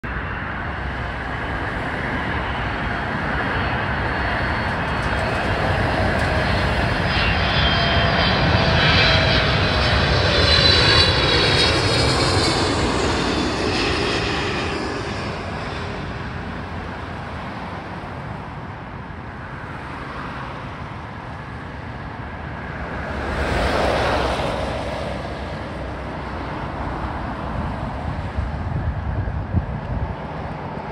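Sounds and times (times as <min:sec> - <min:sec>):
jet engines passing overhead: 0:00.0 - 0:30.9.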